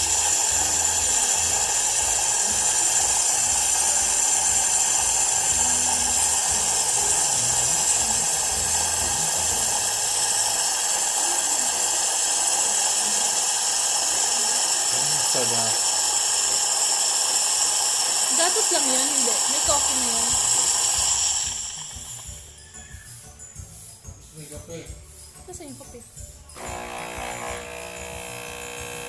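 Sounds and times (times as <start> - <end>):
steam wand hissing: 0.0 - 24.0, 26.6 - 29.0.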